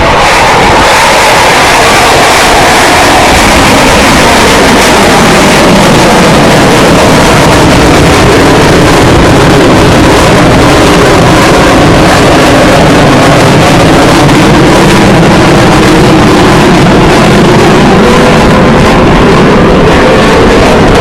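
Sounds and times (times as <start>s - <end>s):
loud distorted jet noise: 0.0s - 21.0s.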